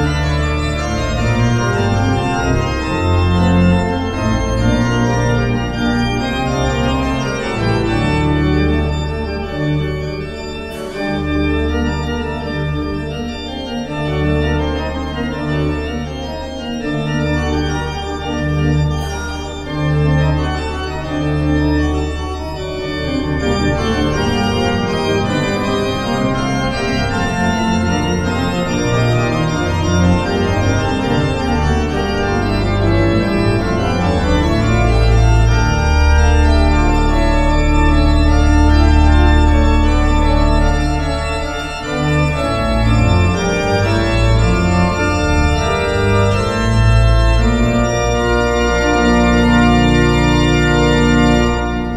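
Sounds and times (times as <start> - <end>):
deep organ pedal bass notes: 0.0 - 51.9
pipe organ playing chords: 0.0 - 51.9.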